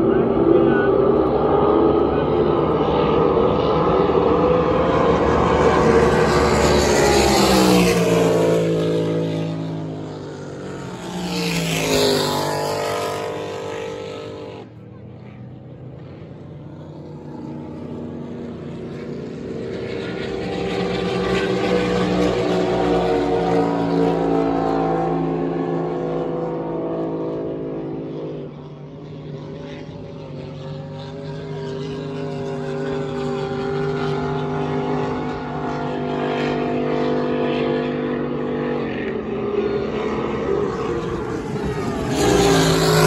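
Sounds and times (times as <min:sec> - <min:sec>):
racing powerboat engines: 0:00.0 - 0:43.0.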